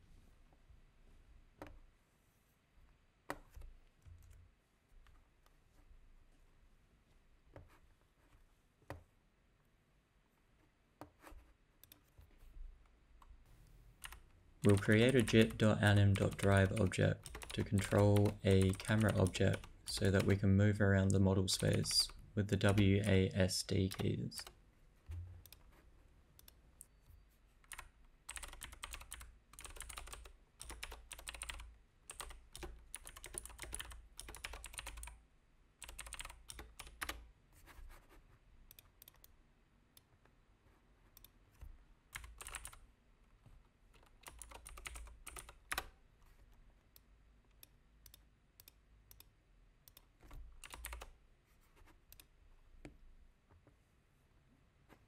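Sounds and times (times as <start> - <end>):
faint keyboard typing: 3.2 - 5.9, 10.6 - 35.2, 35.8 - 53.0.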